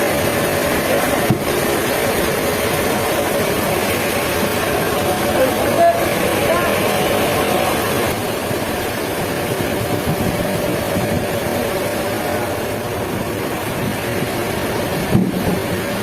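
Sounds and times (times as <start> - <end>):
sawmill machinery hum: 0.0 - 16.0.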